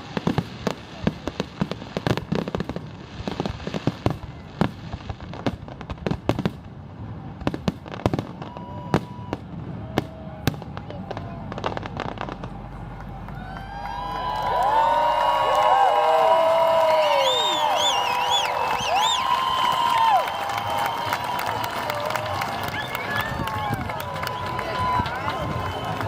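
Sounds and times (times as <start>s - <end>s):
fireworks bangs and crackles: 0.0s - 13.3s, 17.1s - 26.0s.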